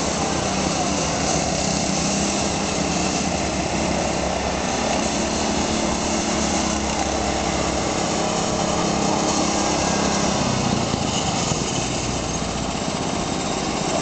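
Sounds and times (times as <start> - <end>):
go-kart engines running: 0.0 - 14.0.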